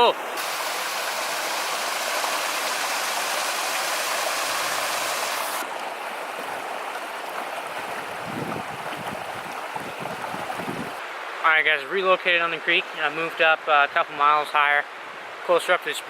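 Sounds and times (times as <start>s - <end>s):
creek water running over rocks: 0.0s - 16.0s.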